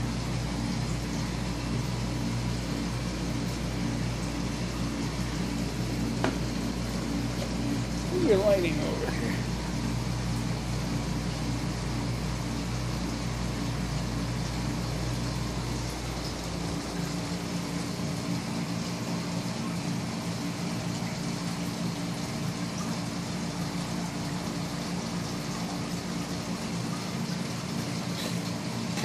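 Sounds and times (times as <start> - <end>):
aquarium filter humming: 0.0 - 29.0.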